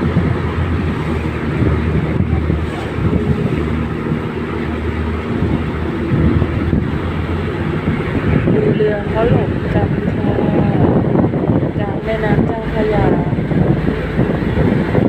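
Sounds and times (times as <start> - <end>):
ferry engine humming: 0.0 - 15.0
water noise: 0.0 - 15.0
wind noise: 0.0 - 15.0.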